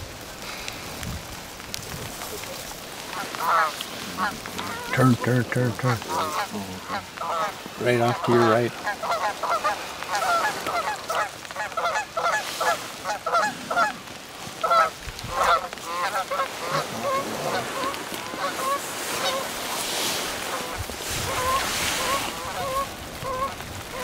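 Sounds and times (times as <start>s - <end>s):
rustling noise: 0.0s - 24.0s
geese honking: 3.0s - 24.0s.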